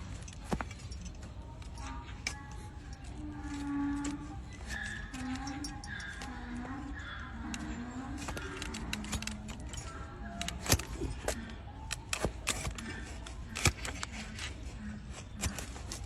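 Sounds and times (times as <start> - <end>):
hoof cracking: 0.0 - 16.0
hoof trimming clicks and snips: 0.0 - 16.0.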